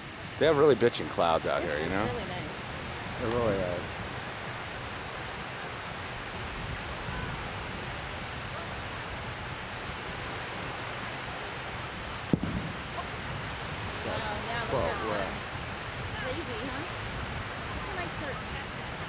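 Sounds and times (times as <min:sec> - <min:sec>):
small waves washing on beach: 0:00.0 - 0:19.0.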